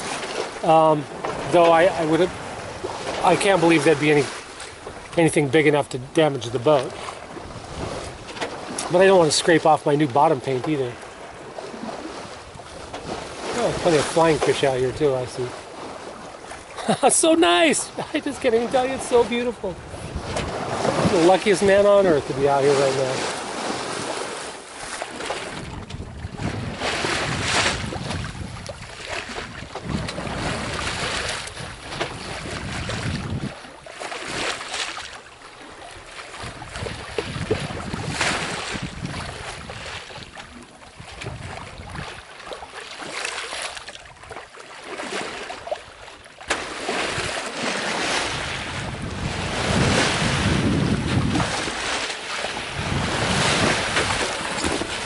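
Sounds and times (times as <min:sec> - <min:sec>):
wind buffeting microphone: 0:00.0 - 0:24.4, 0:25.2 - 0:34.6, 0:35.8 - 0:42.4, 0:47.0 - 0:55.0
sea water rushing and splashing: 0:00.0 - 0:55.0.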